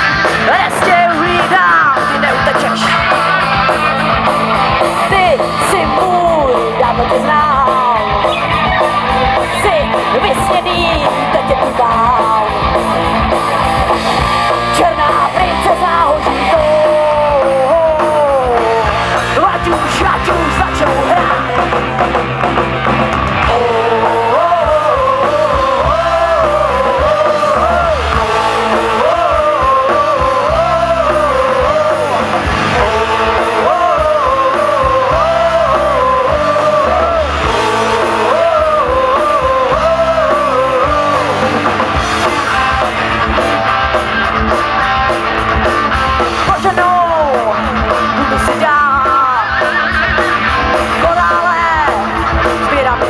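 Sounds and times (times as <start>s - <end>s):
person singing: 0.0s - 13.2s, 14.7s - 21.9s, 23.4s - 43.6s, 46.3s - 53.0s
live rock band playing: 0.0s - 53.0s.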